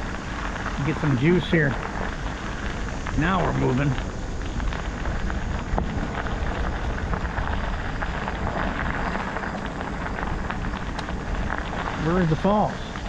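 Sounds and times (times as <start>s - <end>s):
bicycle tyres rolling on trail: 0.0s - 13.0s
wind buffeting microphone: 0.0s - 13.0s.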